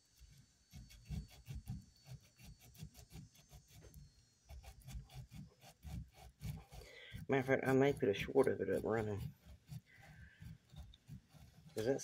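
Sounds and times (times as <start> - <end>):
rhythmic scrubbing strokes: 0.0 - 12.0.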